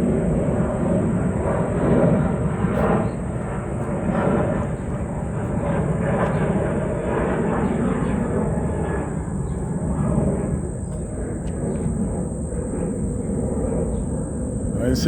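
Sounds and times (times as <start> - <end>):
aircraft passing overhead: 0.0 - 15.0.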